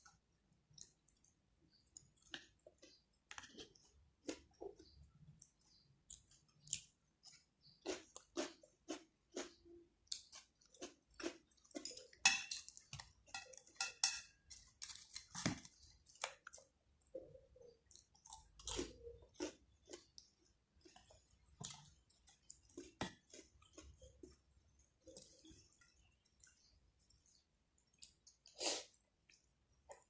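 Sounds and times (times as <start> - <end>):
close-miked chewing and mouth smacks: 0.0 - 13.6, 16.0 - 26.7.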